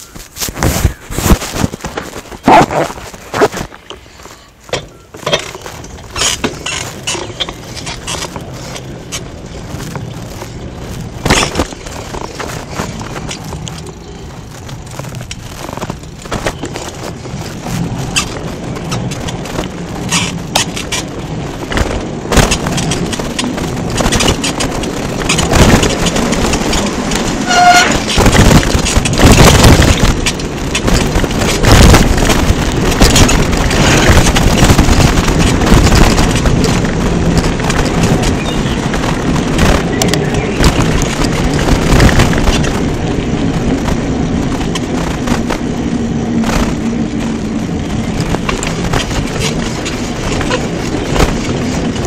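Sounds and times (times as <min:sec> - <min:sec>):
bike rattling over bumps: 0:00.0 - 0:52.0
wind buffeting microphone: 0:05.2 - 0:52.0.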